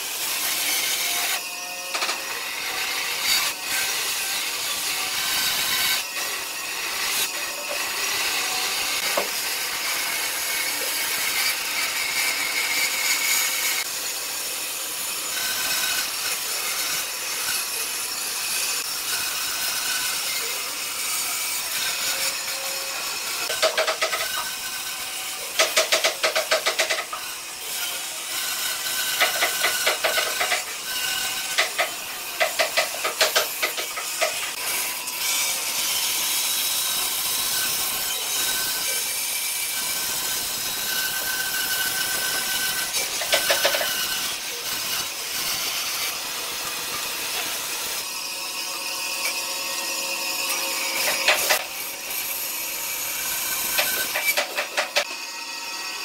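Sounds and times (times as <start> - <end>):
bandsaw cutting wood: 0.0 - 56.0.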